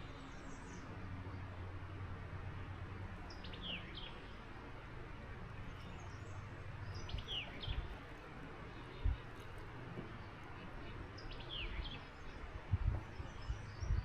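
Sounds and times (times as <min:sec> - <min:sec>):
songbird singing: 0:00.0 - 0:14.0
steady low rumble: 0:00.0 - 0:14.0.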